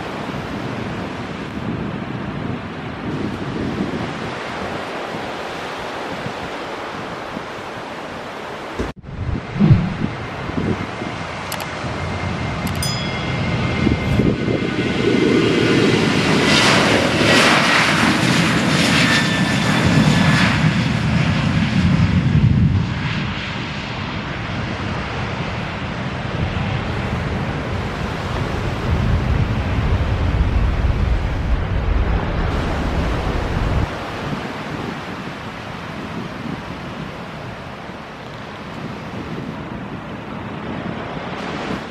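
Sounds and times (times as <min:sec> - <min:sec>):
airliner engine taking off: 0:00.0 - 0:41.9.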